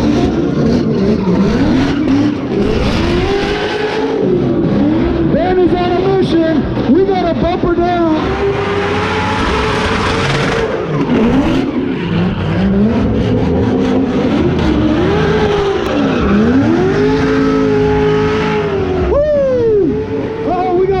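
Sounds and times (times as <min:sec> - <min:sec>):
car engine revving: 0:00.0 - 0:21.0
tyres skidding and squealing: 0:00.0 - 0:21.0.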